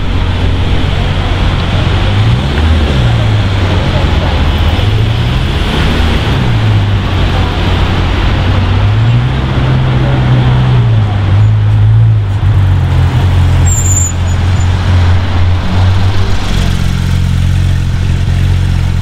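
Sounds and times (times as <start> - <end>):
sports car engine running: 0.0 - 19.0.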